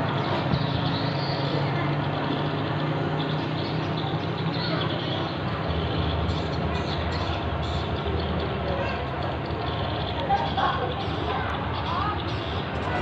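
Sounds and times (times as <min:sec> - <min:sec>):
light traffic: 0:00.0 - 0:13.0.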